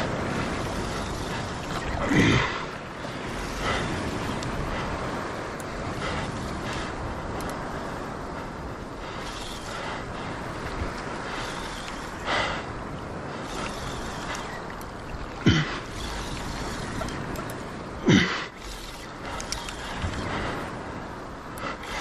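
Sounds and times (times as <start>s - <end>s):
wind and sea on microphone: 0.0s - 22.0s.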